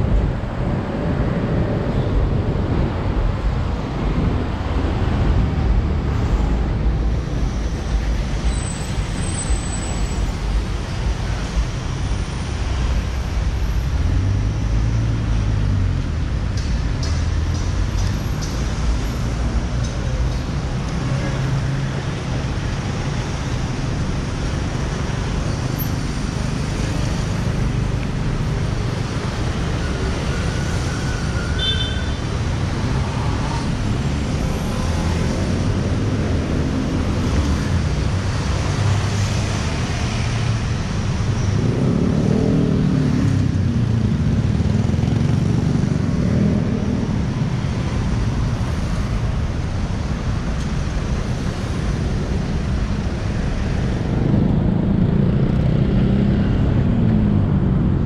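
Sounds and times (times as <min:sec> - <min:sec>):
city traffic rumble: 0:00.0 - 0:58.0.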